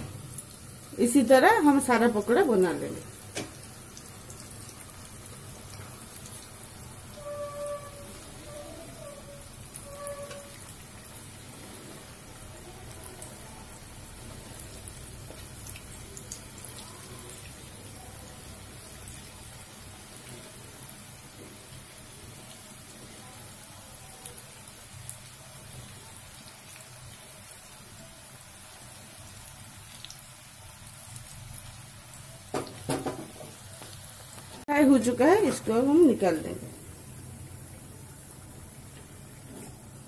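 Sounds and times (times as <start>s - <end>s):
deep-frying in hot oil: 0.0s - 40.0s.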